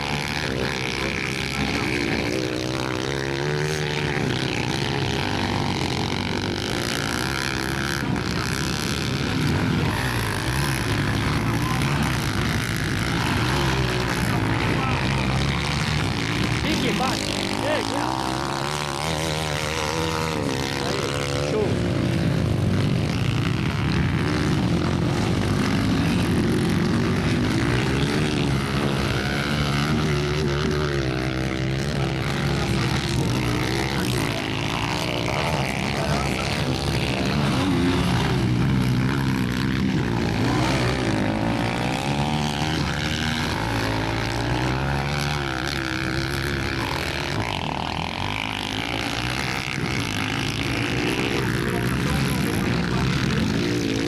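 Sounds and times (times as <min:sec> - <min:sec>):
motocross bike engines racing: 0:00.0 - 0:54.0.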